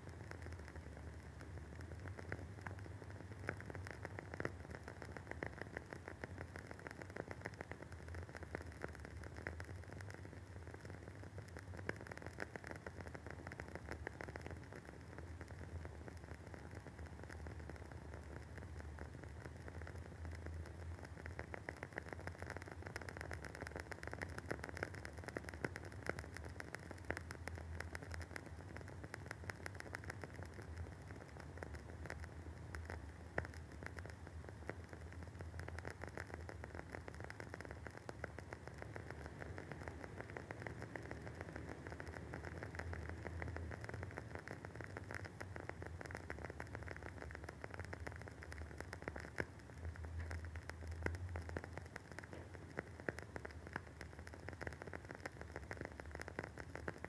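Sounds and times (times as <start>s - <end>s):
low steady hum: 0.0s - 57.0s
wooden wick crackling: 0.0s - 57.0s.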